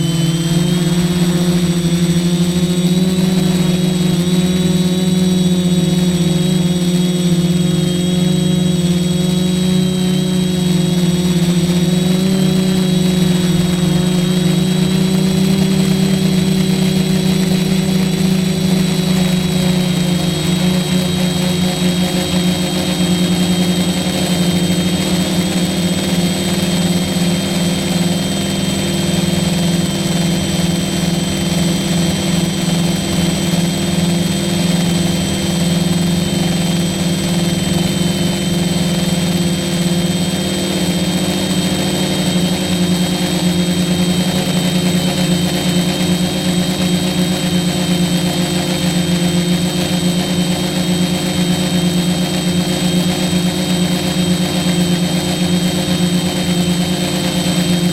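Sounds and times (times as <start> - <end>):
quadcopter motors buzzing: 0.0 - 57.9.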